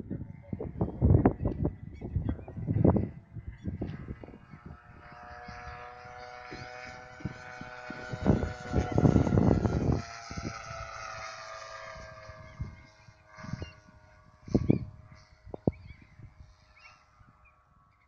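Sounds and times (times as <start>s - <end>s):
model airplane engine flying past: 0.0s - 18.0s.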